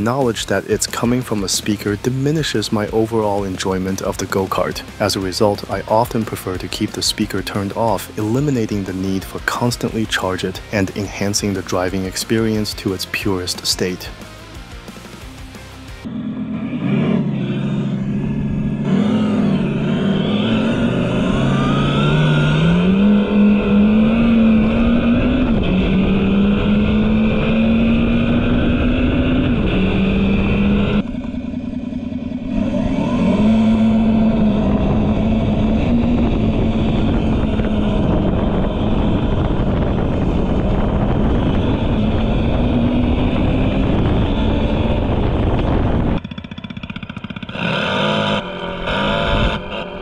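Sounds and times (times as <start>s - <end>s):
simulated engine sound from speaker: 0.0s - 14.6s, 15.2s - 50.0s.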